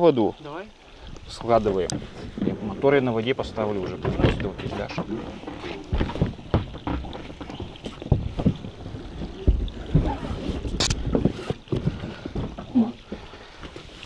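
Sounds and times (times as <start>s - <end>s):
inflatable boat knocks and thumps: 1.4s - 13.9s.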